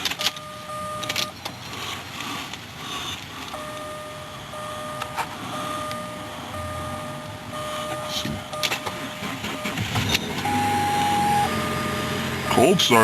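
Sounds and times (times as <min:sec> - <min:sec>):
car electronic warning tone: 0:00.2 - 0:01.4, 0:03.5 - 0:13.0.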